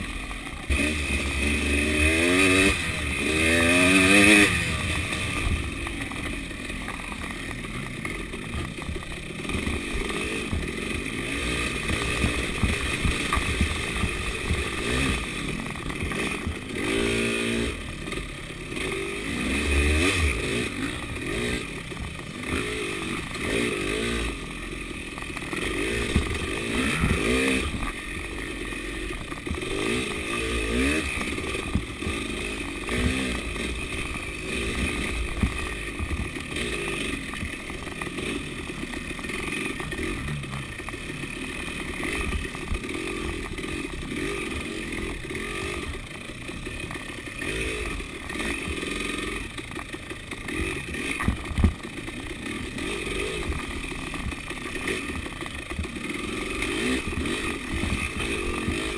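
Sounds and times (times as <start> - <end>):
motorcycle engine revving: 0.0 - 58.9
bike knocking and clattering: 3.7 - 17.6, 19.9 - 41.2, 42.0 - 58.9.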